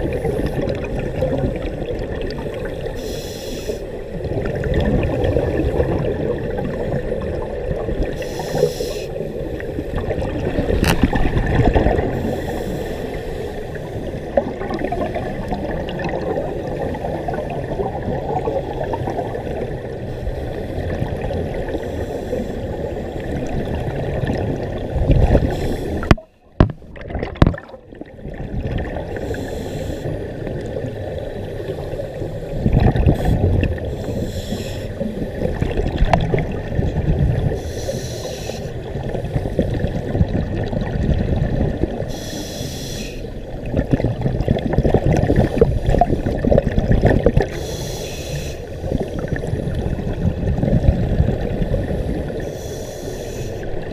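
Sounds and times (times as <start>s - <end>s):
regulator bubbles gurgling underwater: 0.0s - 53.9s.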